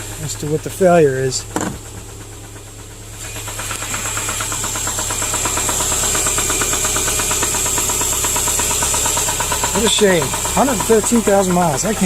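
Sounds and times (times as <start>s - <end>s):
engine running with fast knocking: 0.0s - 12.0s.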